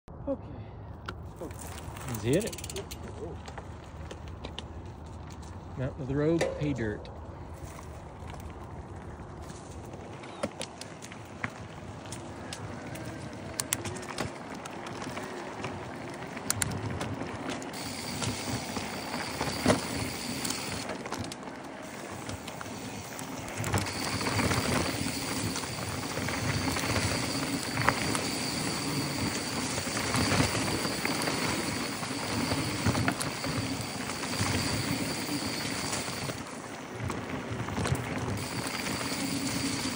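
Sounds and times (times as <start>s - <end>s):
tyres crunching over gravel: 1.2s - 39.9s
bike rattling over bumps: 1.4s - 39.9s.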